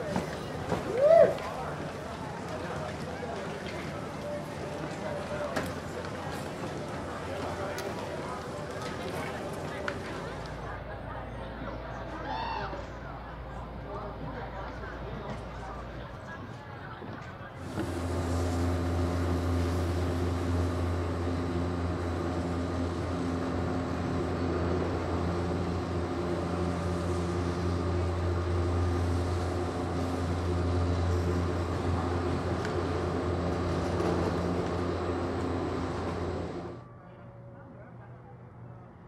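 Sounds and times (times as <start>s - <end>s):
gondola lift mechanical hum: 0.0s - 39.0s.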